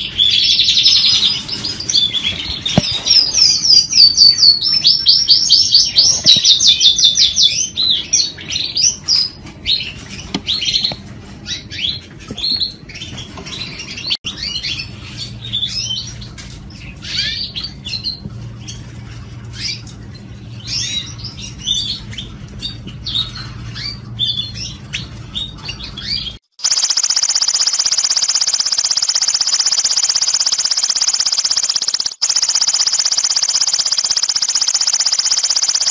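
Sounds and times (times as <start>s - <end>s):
canary singing trills: 0.0s - 16.2s, 19.6s - 35.9s.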